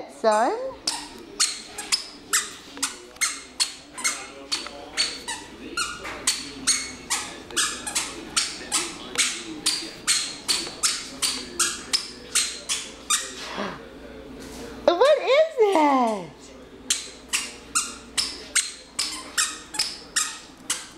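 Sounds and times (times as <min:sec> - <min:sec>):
squeaky shoes squeaking: 0:00.3 - 0:13.6, 0:16.9 - 0:20.9.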